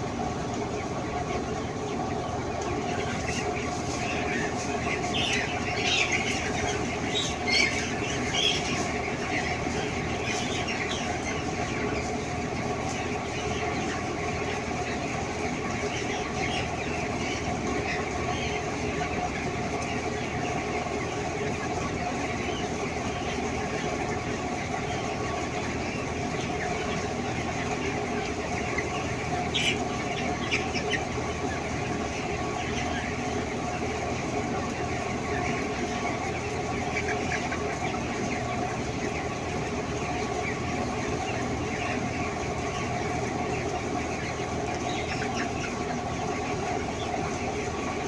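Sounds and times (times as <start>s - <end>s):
din of chickens: 0.0s - 48.0s
high chick peeps: 0.0s - 48.0s.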